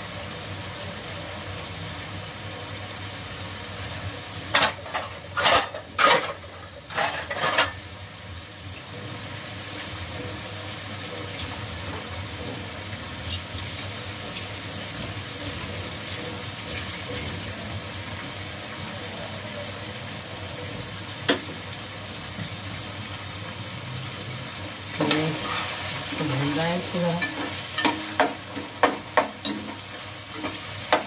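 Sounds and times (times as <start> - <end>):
meat and onions sizzling in oil: 0.0 - 31.0.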